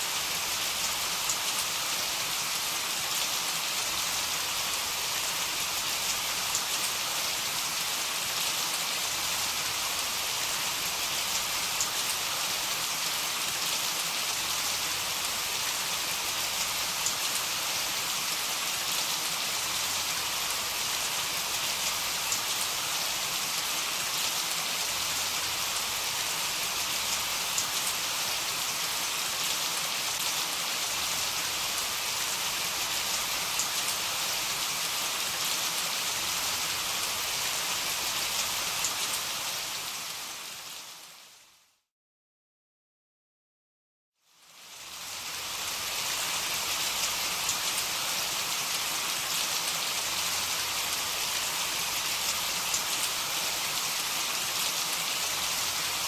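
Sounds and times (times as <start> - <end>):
heavy rain: 0.0 - 41.4, 44.7 - 56.0.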